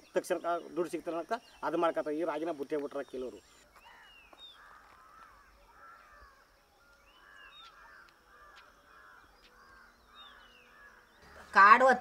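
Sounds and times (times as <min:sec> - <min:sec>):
faint repeated bird calls: 0:00.0 - 0:12.0.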